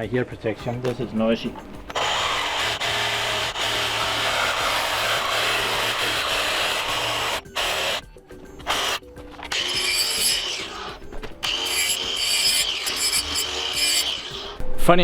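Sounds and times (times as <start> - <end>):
power tool cutting metal pipe: 1.9 - 8.0, 8.6 - 14.6.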